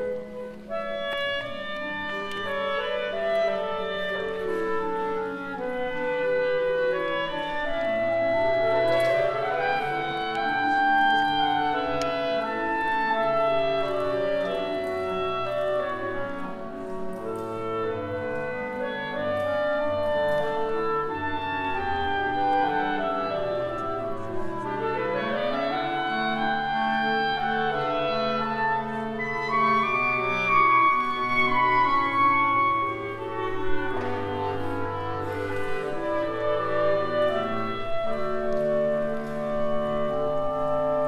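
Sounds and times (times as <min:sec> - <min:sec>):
clarinet ensemble playing: 0:00.0 - 0:41.0.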